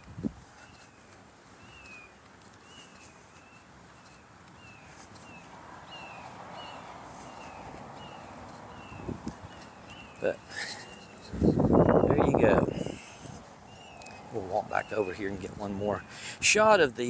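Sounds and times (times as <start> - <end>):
distant road traffic: 0.0 - 17.0
bird chirping: 0.5 - 16.3.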